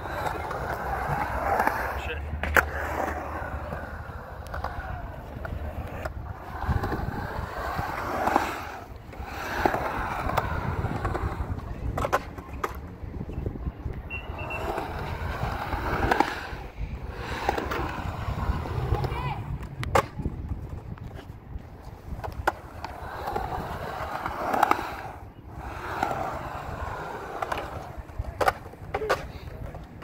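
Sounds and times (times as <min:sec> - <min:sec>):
skateboard clacks: 0:00.0 - 0:30.0
skateboard wheels rolling on concrete: 0:00.0 - 0:30.0.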